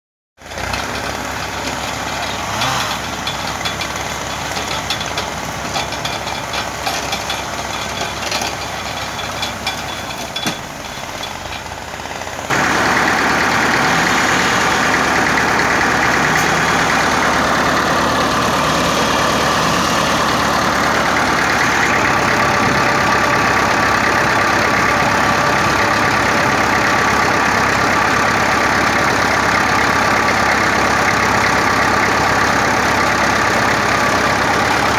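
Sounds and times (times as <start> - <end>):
diesel tractor engine running: 0.4 - 34.9.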